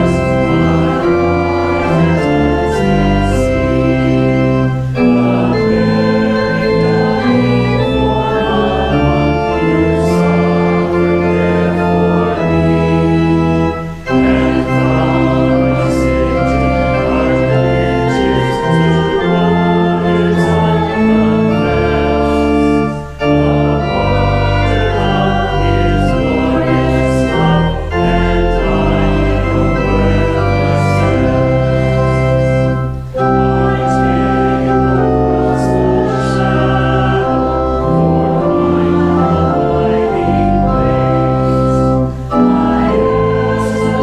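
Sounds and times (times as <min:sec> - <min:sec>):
congregation singing: 0:00.0 - 0:44.0
organ playing chords: 0:00.0 - 0:44.0.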